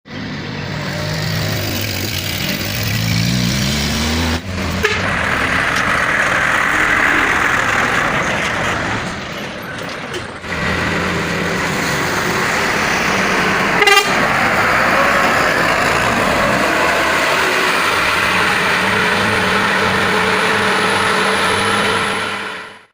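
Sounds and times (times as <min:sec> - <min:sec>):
diesel trucks climbing: 0:00.0 - 0:22.9
road noise: 0:00.0 - 0:22.9.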